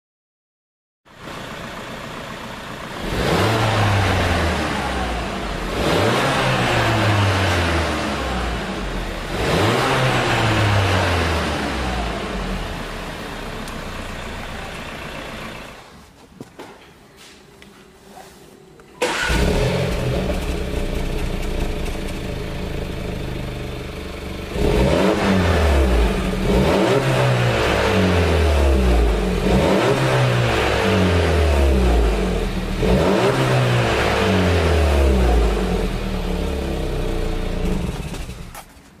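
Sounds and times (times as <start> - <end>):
car engine starting and idling: 1.1 - 16.0, 19.0 - 38.9
car engine revving: 2.9 - 15.8, 19.0 - 38.5.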